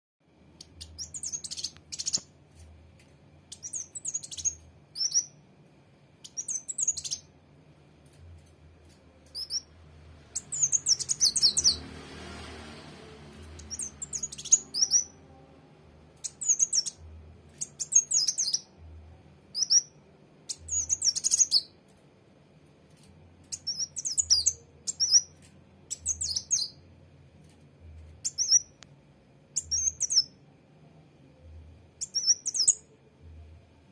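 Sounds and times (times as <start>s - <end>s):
bird chirping: 0.5s - 2.4s, 3.0s - 5.5s, 6.2s - 7.4s, 8.0s - 15.5s, 16.1s - 21.9s, 22.9s - 28.9s, 29.5s - 30.4s, 31.5s - 33.0s.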